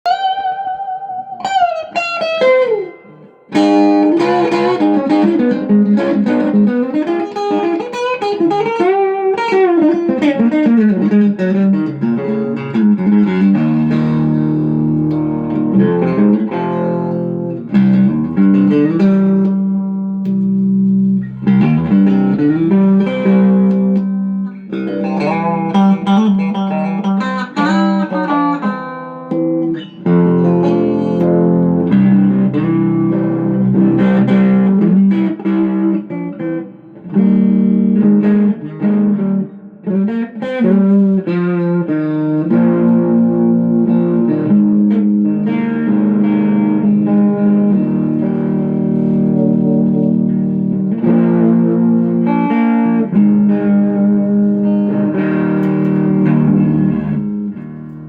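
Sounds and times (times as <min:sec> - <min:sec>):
plucked string instrument music: 0:00.0 - 0:58.0.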